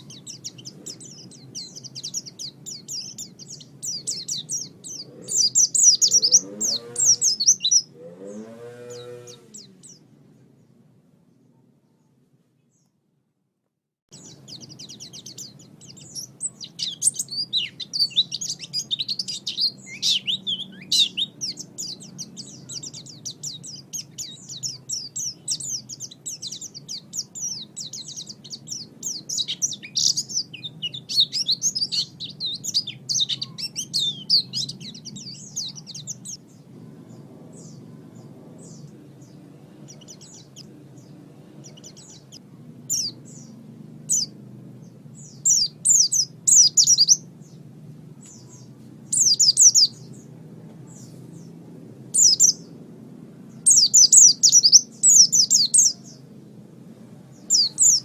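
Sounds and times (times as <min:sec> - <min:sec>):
bird twittering chirps: 0:00.0 - 0:12.0, 0:14.1 - 0:52.8, 0:53.5 - 0:56.3, 0:57.3 - 0:58.0.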